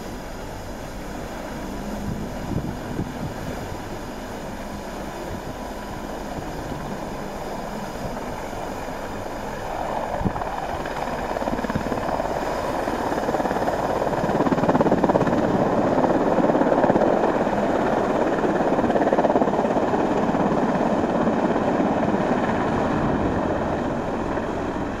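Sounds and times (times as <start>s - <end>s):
helicopter rotor and engines: 0.0s - 25.0s.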